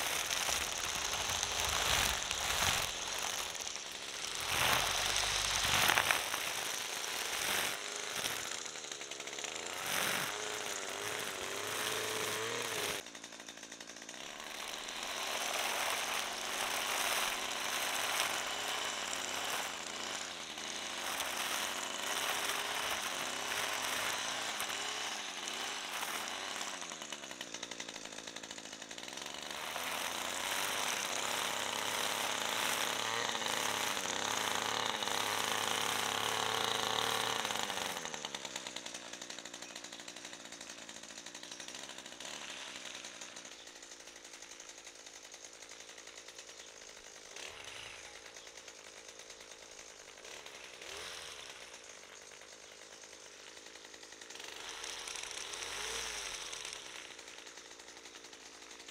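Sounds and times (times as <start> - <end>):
string trimmer cutting grass: 0.0 - 58.9.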